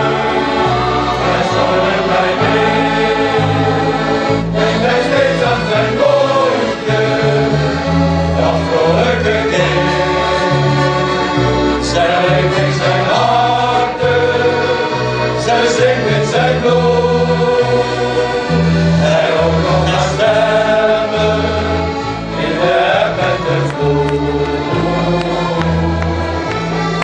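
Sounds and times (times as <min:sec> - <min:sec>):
accordion band playing: 0:00.0 - 0:27.0
choir singing sea song: 0:00.0 - 0:27.0.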